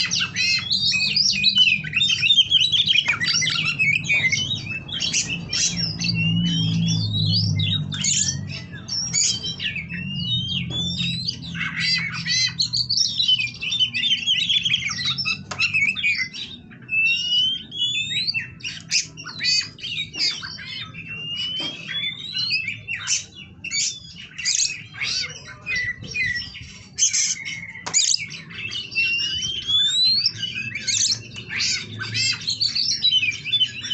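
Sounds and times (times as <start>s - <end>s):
songbird singing whistled phrases: 0.0s - 33.9s.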